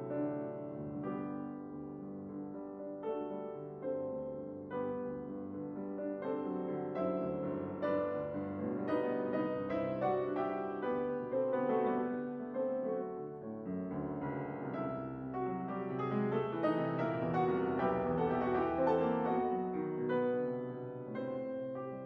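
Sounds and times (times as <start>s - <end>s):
solo piano: 0.0s - 22.0s.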